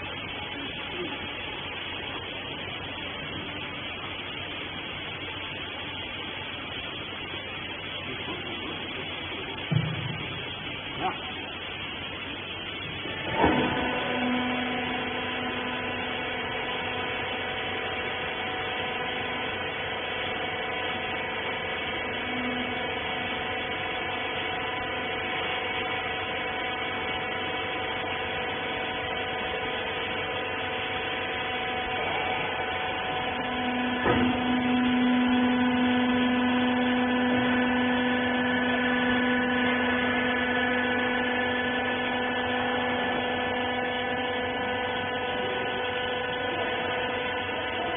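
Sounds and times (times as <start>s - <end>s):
baling machine motor humming: 0.0s - 47.9s.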